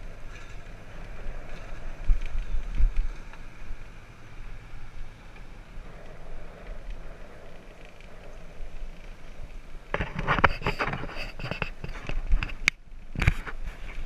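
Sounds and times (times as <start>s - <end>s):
bike rattling and knocking: 0.0s - 14.0s
wind and rolling noise: 0.0s - 14.0s.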